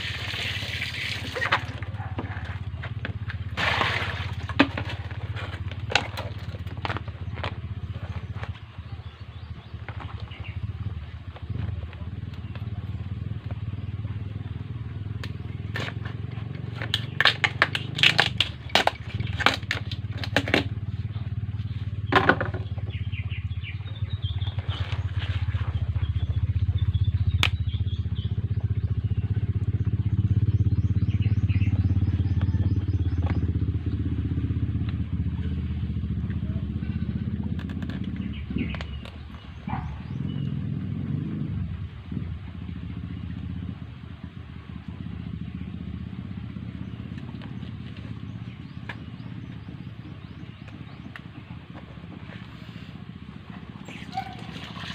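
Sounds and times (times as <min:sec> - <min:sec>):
low engine drone: 0:00.0 - 0:54.9.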